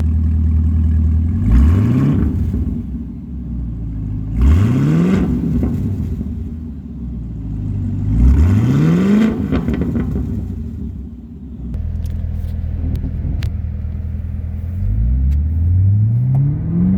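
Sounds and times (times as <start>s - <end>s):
car engine idling and revving: 0.0s - 16.9s.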